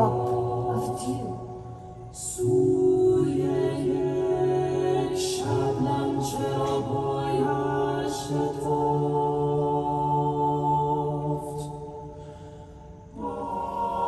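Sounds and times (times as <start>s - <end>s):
vocal ensemble chanting: 0.0s - 14.0s.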